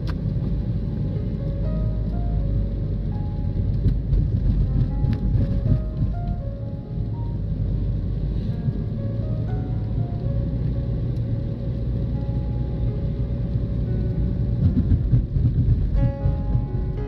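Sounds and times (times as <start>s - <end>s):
car road and engine rumble: 0.0s - 17.0s
melodic music playing: 1.2s - 14.7s, 16.0s - 17.0s.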